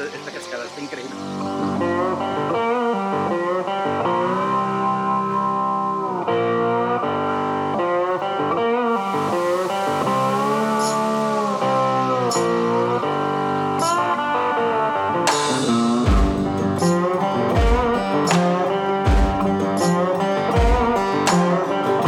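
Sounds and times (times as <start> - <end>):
guitar music with bending notes: 0.0 - 22.0.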